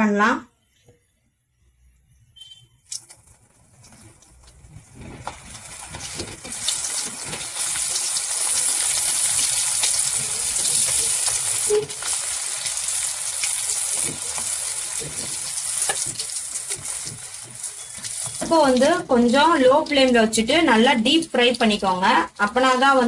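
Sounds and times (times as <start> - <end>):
chicken sizzling in hot oil: 2.9 - 23.0.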